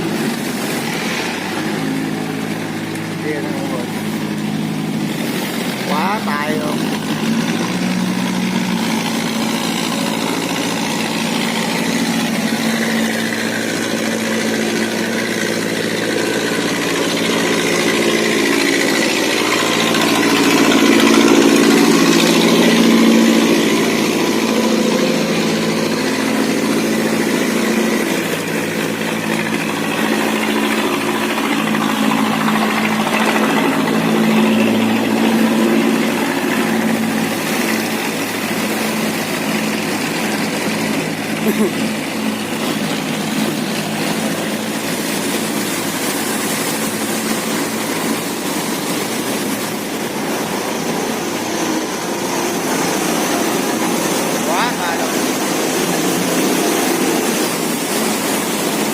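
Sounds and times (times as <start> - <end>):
motorboat engines running: 0.0 - 58.9.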